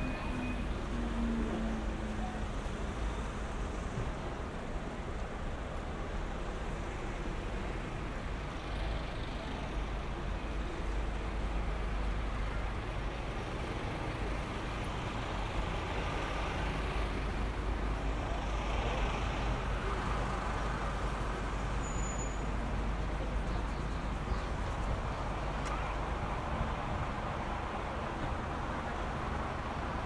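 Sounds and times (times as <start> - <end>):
car and lorry engines running: 0.0 - 30.0
road noise: 0.0 - 30.0.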